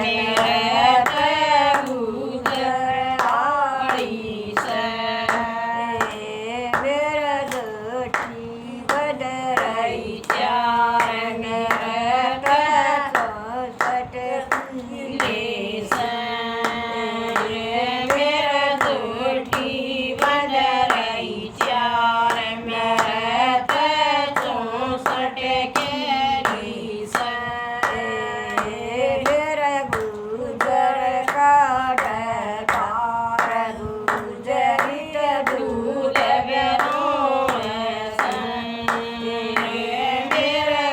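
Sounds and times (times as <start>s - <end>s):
hand clapping: 0.0s - 40.9s
woman singing devotional song: 0.0s - 40.9s.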